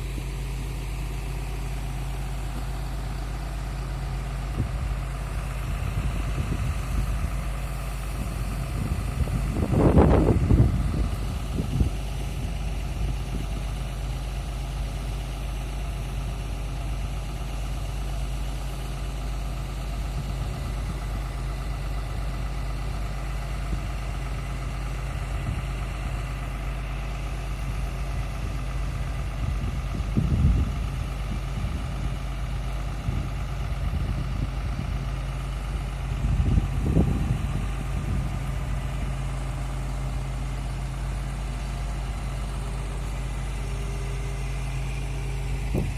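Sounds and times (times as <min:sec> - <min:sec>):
drilling rig engine humming: 0:00.0 - 0:45.9.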